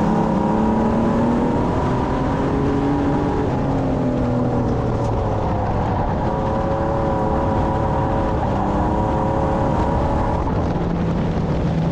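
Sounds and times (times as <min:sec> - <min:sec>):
car engine running: 0:00.0 - 0:11.9
road and wind noise: 0:00.0 - 0:11.9.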